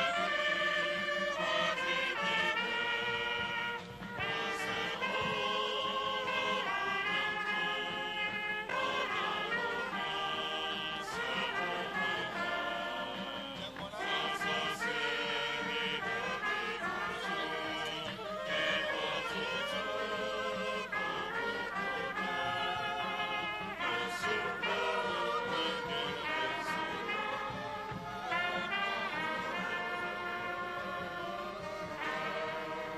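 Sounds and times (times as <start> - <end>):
brass band playing: 0.0 - 32.9
voices singing along: 0.0 - 32.9.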